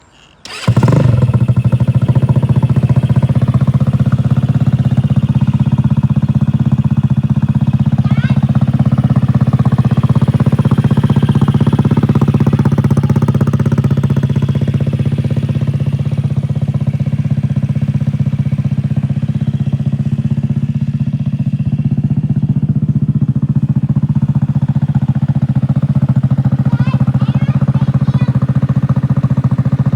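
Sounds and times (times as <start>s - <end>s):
scooter engine idling: 0.4s - 29.9s.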